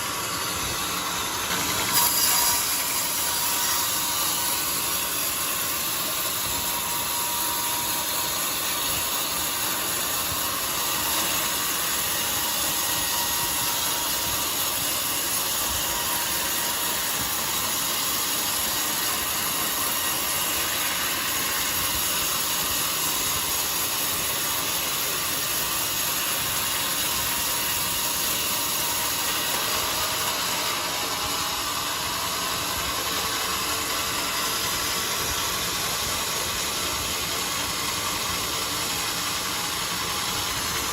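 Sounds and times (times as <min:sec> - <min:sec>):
band sawmill running: 0:00.0 - 0:40.9.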